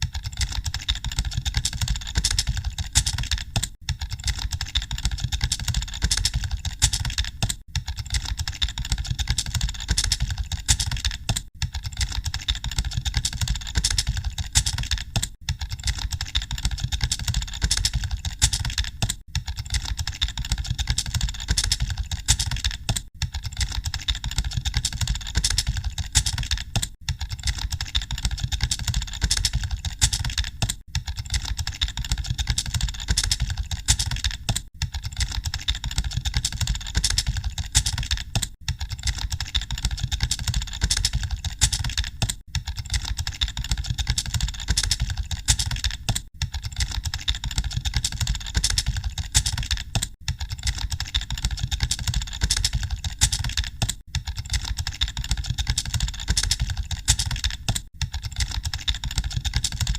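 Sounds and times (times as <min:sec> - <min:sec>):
many keyboards clattering: 0:00.0 - 0:59.9.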